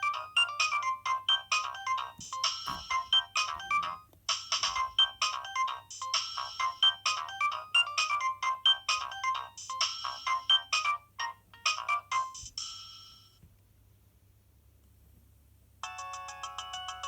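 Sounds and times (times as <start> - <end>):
mobile phone ringtone melody: 0.0 - 13.4, 15.8 - 17.0.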